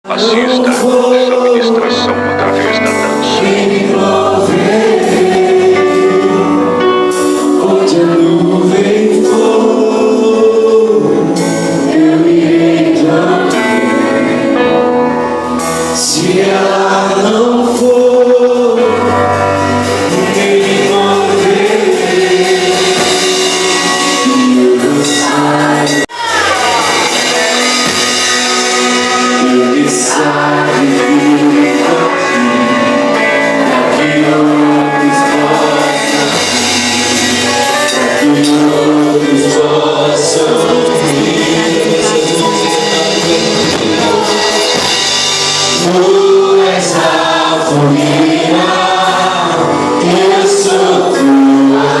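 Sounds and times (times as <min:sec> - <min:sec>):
gospel worship song with band: 0:00.0 - 0:52.0.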